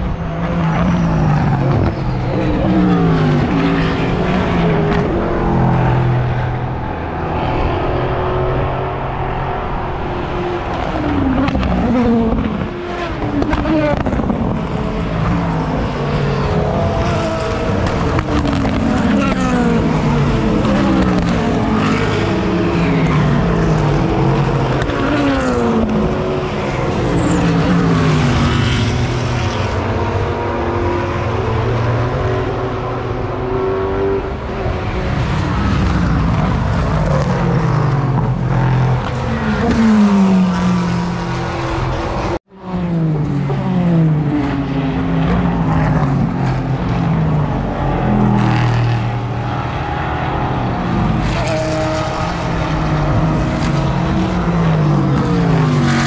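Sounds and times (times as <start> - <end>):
race cars passing at speed: 0.0 - 56.0.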